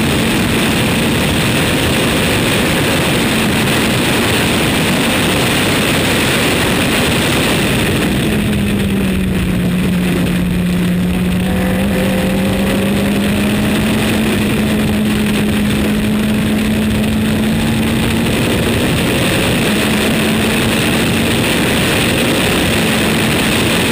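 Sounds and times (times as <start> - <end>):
race car engine: 0.0 - 23.9
wind and road noise: 0.0 - 23.9.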